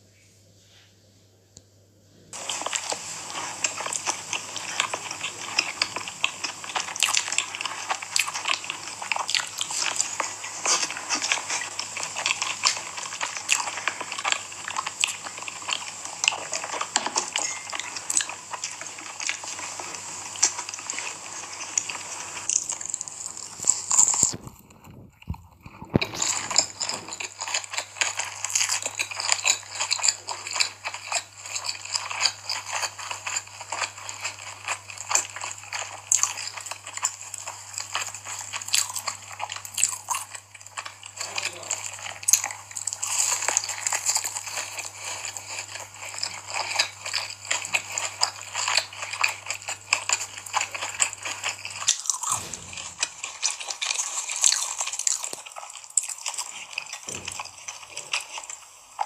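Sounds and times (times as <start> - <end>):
low steady hum: 0.0 - 59.0
crunchy bites and chewing: 2.4 - 59.0.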